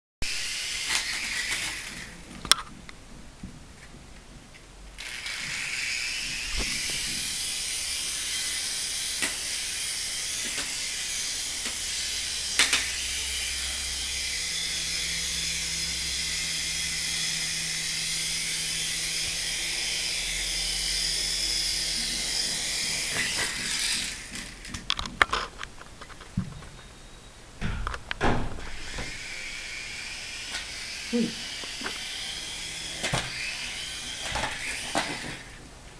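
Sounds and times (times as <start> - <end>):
toy helicopter motor whirring: 0.2 - 2.3, 5.0 - 25.6, 28.6 - 35.6.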